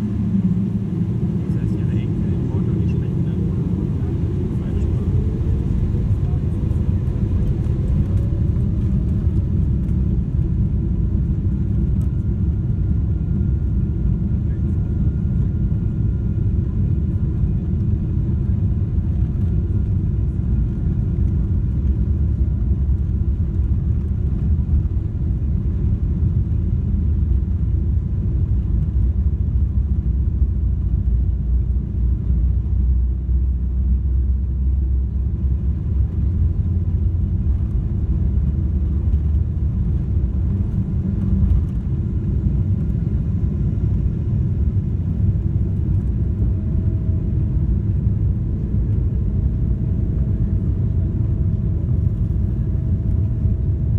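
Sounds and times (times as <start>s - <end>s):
airplane cabin engine rumble: 0.0s - 53.9s
faint steady whines: 0.0s - 53.9s.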